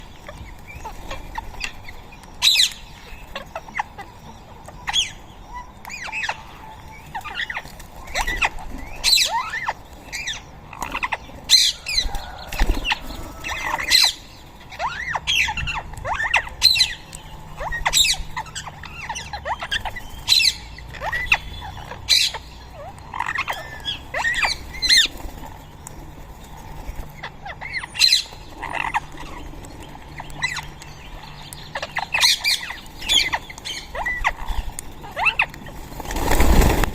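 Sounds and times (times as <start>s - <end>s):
parakeets squawking: 0.0s - 36.9s.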